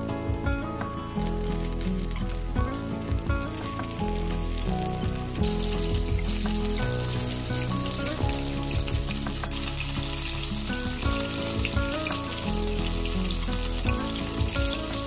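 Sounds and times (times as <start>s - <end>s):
background music: 0.0s - 15.0s
chicken sizzling in hot oil: 0.0s - 15.0s.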